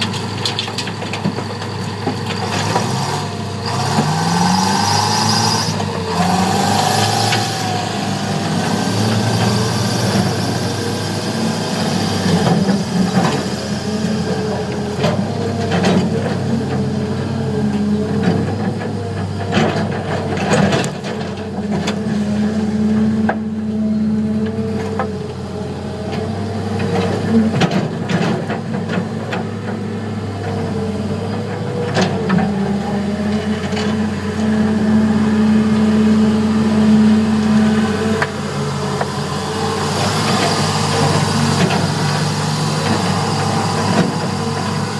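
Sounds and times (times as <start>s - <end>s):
heavy diesel engines under load: 0.0s - 44.9s.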